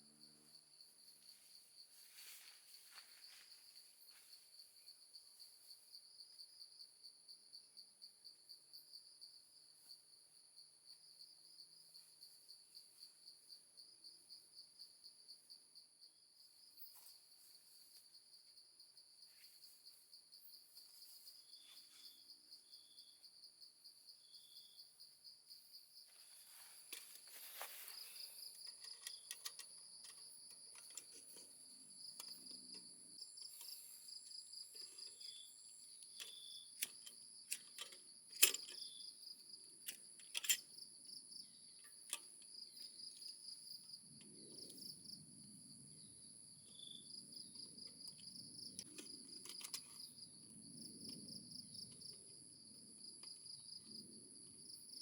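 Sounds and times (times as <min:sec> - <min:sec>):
insects trilling: 0:11.0 - 0:55.0.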